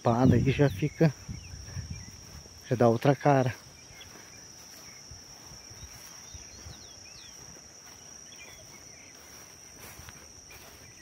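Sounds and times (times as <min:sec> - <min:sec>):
insects chirring: 0:00.0 - 0:11.0
bird chirps: 0:00.1 - 0:11.0.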